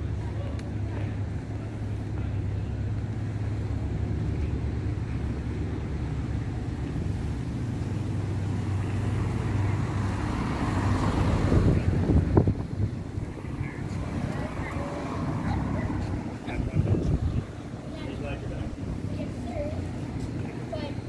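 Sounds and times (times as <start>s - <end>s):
low traffic hum: 0.0s - 21.0s
vehicle passing: 0.0s - 21.0s.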